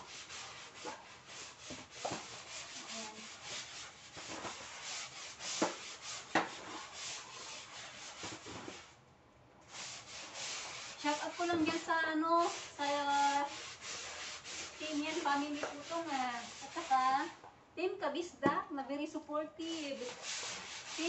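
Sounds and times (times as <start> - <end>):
scrub brush scrubbing floor: 0.0 - 8.9, 9.7 - 17.3, 19.6 - 21.0.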